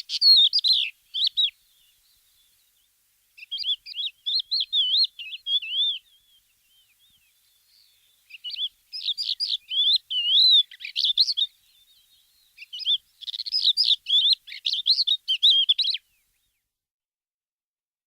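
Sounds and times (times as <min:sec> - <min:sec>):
songbird chirping and whistling: 0:00.0 - 0:16.6.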